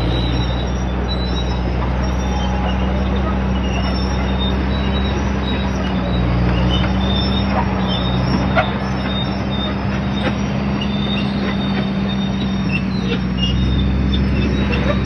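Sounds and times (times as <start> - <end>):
diesel engine under load: 0.0 - 15.0
high metallic squeals: 0.0 - 15.0.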